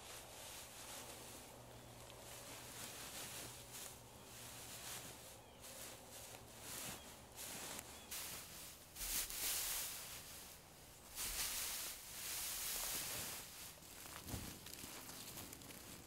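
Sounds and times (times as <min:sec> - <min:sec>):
dry grass rustling and crackling: 0:00.0 - 0:16.0.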